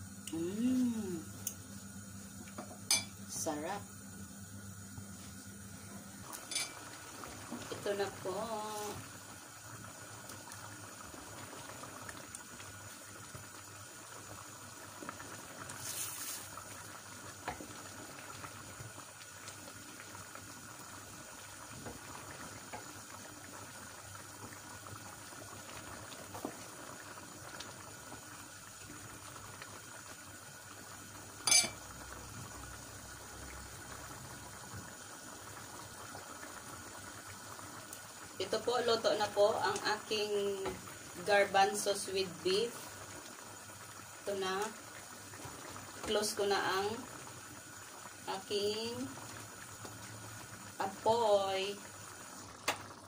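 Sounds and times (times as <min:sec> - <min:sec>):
stew bubbling in pan: 0:00.0 - 0:53.0.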